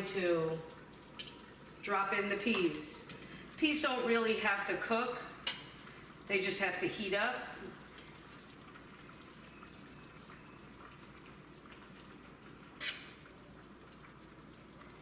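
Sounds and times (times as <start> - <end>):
pot bubbling and dripping: 0.0 - 15.0.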